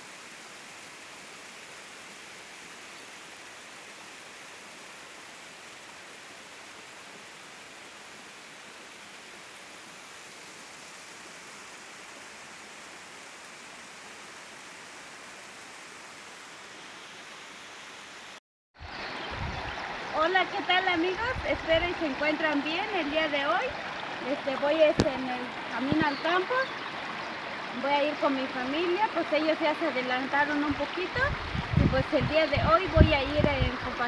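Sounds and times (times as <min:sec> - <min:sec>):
distant running water: 0:00.0 - 0:34.0.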